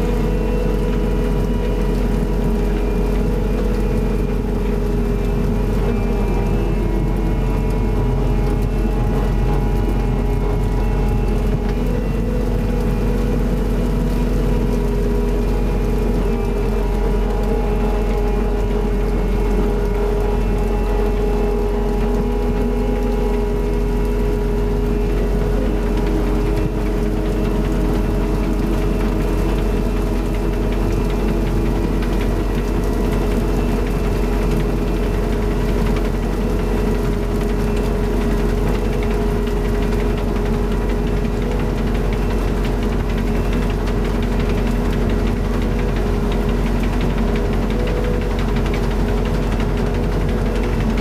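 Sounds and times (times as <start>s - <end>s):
diesel engine running steadily: 0.0s - 51.0s
hum of drives and conveyors: 0.0s - 51.0s.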